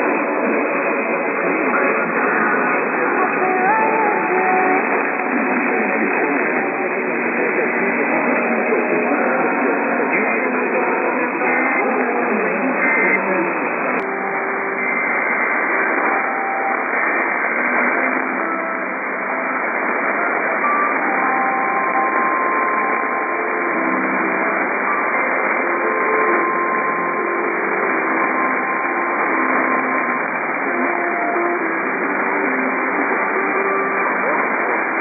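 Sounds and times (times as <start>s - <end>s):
faint radio tones: 0.0s - 35.0s
radio static hiss: 0.0s - 35.0s.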